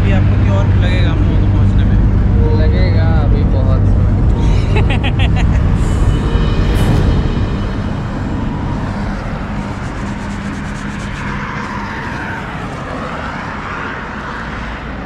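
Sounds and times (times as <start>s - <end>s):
motorcycle engine hum: 0.0s - 15.0s
wind and road noise: 0.0s - 15.0s.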